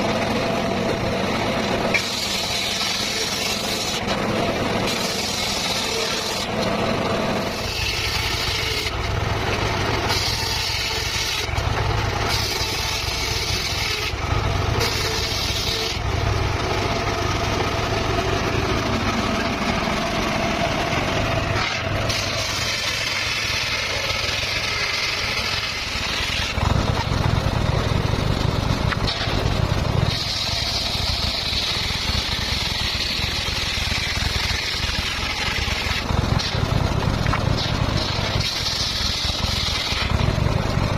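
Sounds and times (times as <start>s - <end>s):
circular saw cutting: 0.0s - 40.9s.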